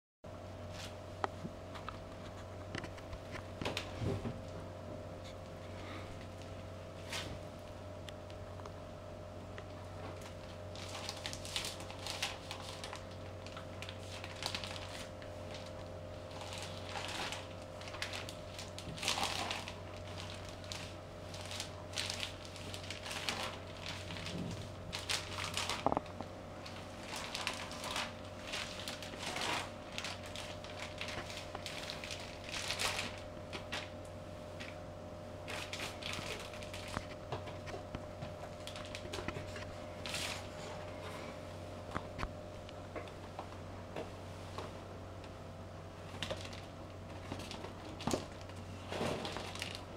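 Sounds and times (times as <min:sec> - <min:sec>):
faint hum: 0:00.3 - 0:49.9.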